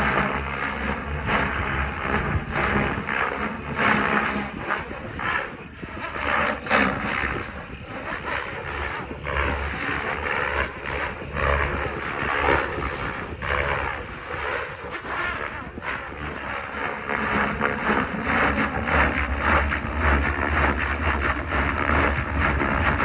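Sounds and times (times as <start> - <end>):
helicopter rotor noise: 0.0 - 23.0
wind on microphone: 0.0 - 23.0.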